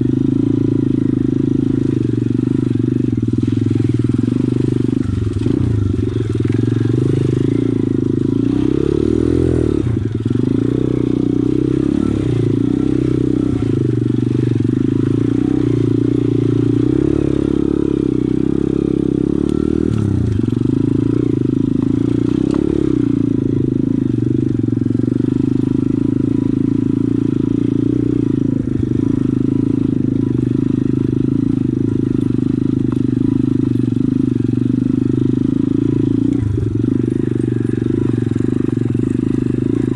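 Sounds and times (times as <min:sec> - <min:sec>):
pit bike engine running: 0:00.0 - 0:39.9.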